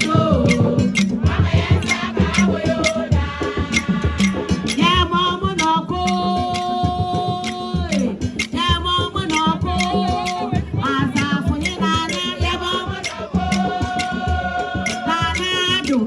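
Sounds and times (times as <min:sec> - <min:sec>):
people singing: 0:00.0 - 0:16.0
percussion: 0:00.0 - 0:16.0
rattles keeping a beat: 0:00.0 - 0:16.0.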